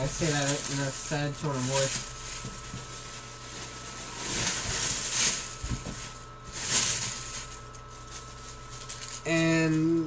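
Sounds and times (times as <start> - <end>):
rustling and handling noises: 0.0 - 10.0.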